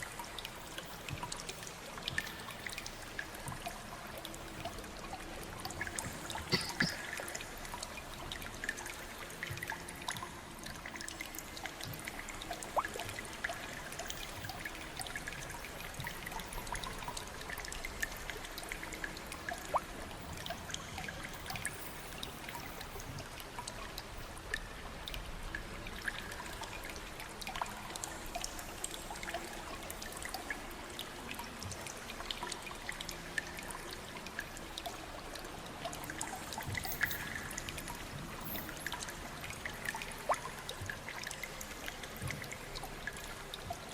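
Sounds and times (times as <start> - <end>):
water drips and splashes: 0.0 - 43.9
water trickling and pouring: 0.0 - 43.9.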